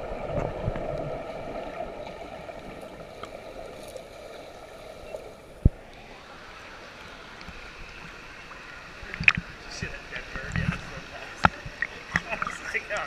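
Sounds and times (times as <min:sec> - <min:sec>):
muffled underwater noise: 0:00.0 - 0:13.0
open-air water noise: 0:00.0 - 0:13.0.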